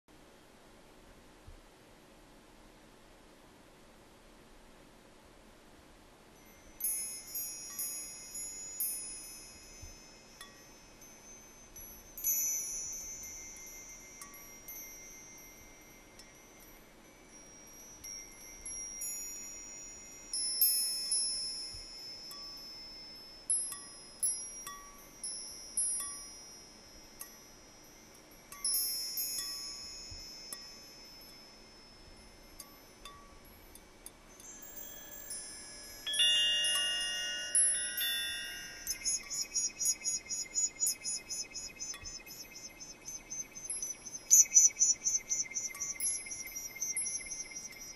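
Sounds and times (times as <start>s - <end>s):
chimes ringing: 6.5s - 47.9s.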